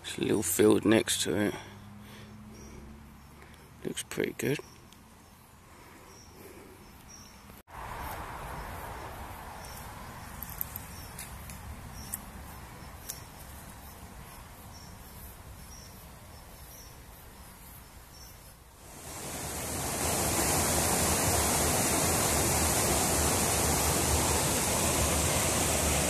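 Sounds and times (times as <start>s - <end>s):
outdoor riverside background noise: 0.0s - 26.0s
high insect chirps: 4.4s - 25.8s.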